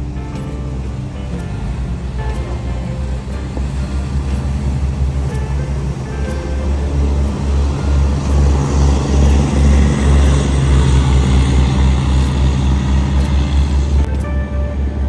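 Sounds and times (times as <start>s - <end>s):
boat engine rumbling: 0.0s - 15.0s
rushing water: 0.0s - 15.0s
wind: 0.0s - 15.0s.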